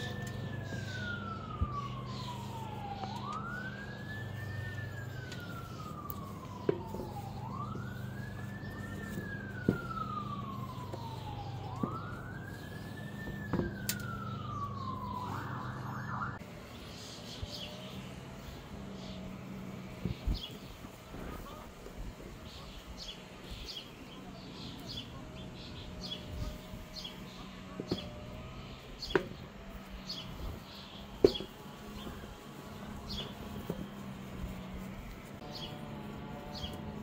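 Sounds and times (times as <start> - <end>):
emergency vehicle siren wailing: 0.0 - 37.0.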